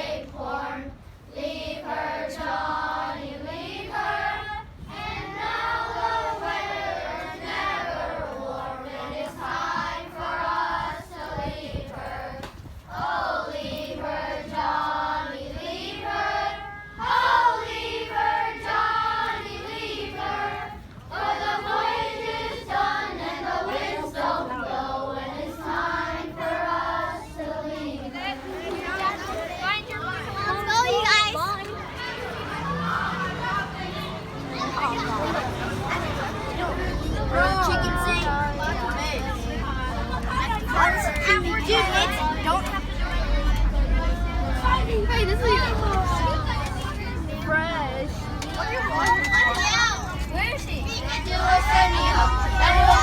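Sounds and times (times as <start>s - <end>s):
children singing together: 0.0s - 47.3s, 51.0s - 53.0s.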